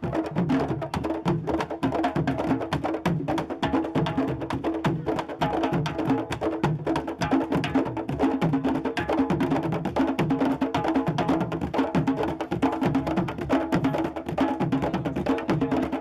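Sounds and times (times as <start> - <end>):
group drumming: 0.0 - 16.0.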